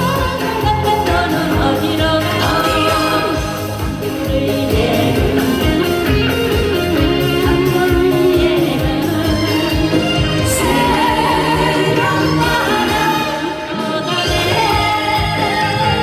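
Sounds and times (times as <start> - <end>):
backing track with beat and guitar: 0.0 - 16.0
person singing: 0.0 - 16.0.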